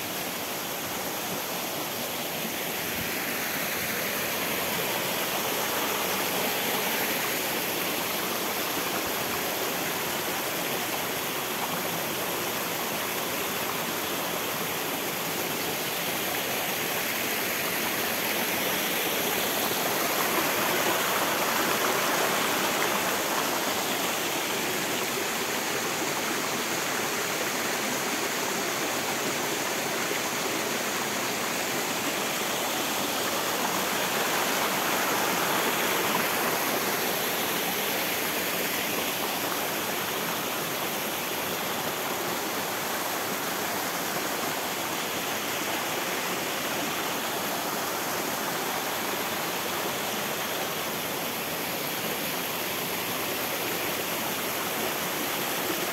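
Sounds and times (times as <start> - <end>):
waterfall and stream rushing: 0.0 - 55.9.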